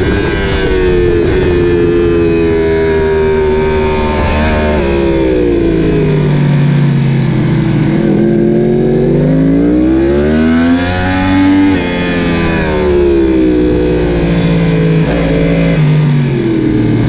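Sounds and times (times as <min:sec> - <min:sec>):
motorcycle engine at racing pace: 0:00.0 - 0:17.0
wind rush: 0:00.0 - 0:17.0.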